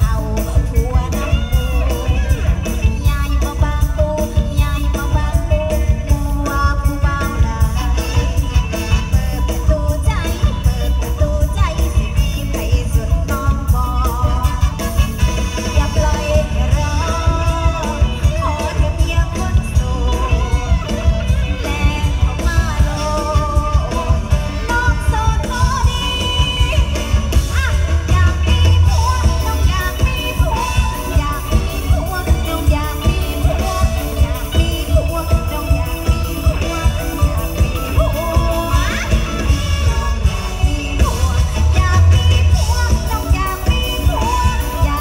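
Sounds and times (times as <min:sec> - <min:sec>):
live band music over sound system: 0:00.0 - 0:45.0.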